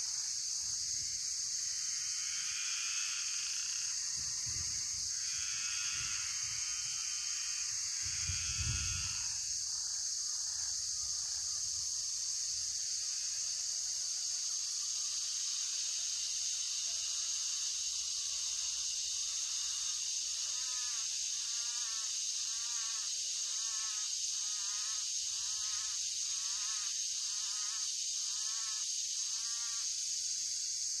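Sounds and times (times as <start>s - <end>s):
crickets and cicadas droning: 0.0s - 31.0s.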